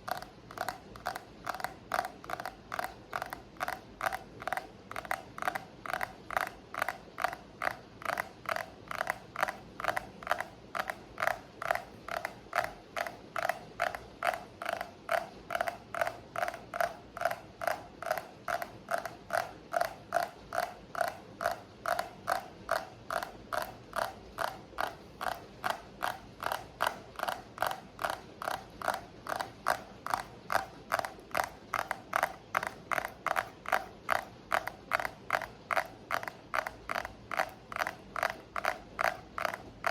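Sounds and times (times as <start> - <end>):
steady tapping: 0.0 - 39.9.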